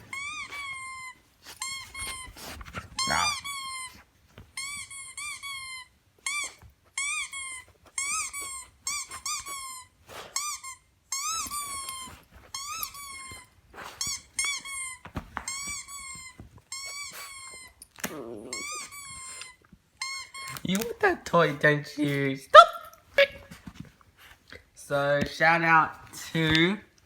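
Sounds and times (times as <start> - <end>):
squeaky toy squeaks: 0.0 - 23.5.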